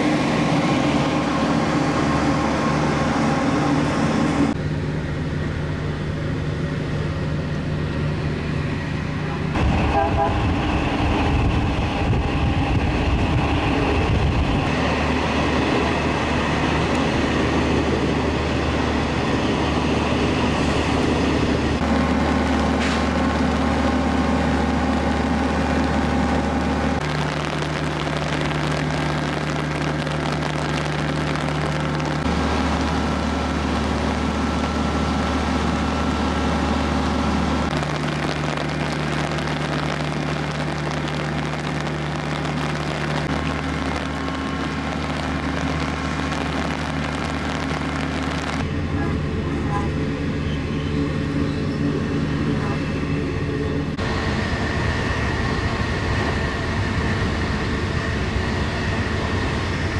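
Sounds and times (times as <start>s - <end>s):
moving train running noise: 0.0s - 59.9s
train engines idling: 0.0s - 59.9s.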